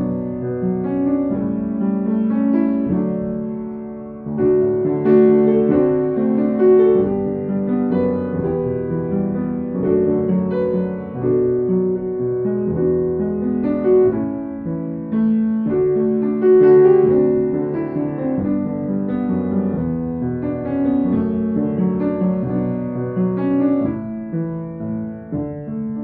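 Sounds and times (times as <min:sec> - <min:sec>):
flowing piano melody: 0:00.0 - 0:26.0.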